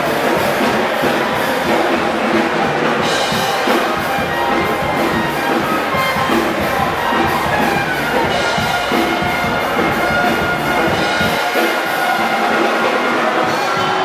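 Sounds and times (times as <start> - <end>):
brass band music with drums: 0.0 - 14.0.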